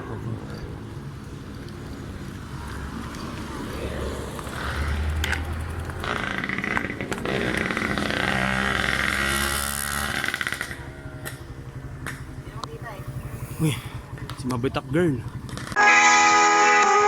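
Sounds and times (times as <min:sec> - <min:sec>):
vehicle engine passing: 0:00.0 - 0:15.8.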